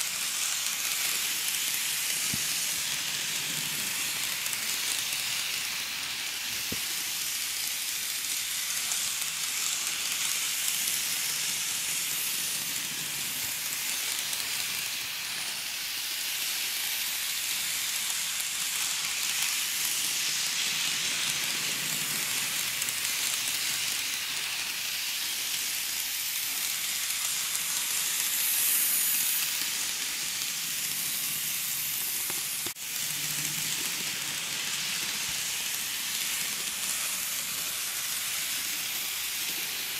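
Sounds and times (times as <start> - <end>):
model train rattling on track: 0.0 - 39.9.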